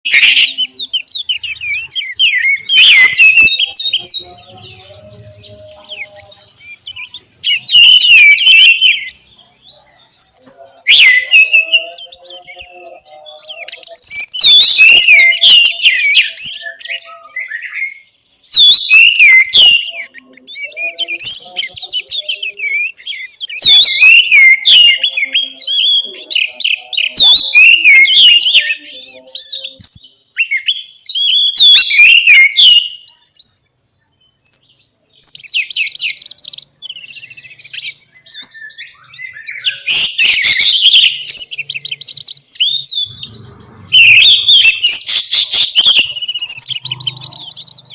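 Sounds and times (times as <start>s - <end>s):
thrush singing: 0.0s - 33.3s, 34.6s - 47.9s.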